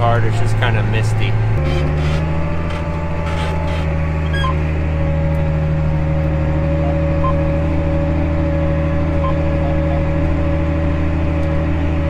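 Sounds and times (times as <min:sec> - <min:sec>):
steady whine: 0:00.0 - 0:12.0
tractor diesel engine droning: 0:00.0 - 0:12.0.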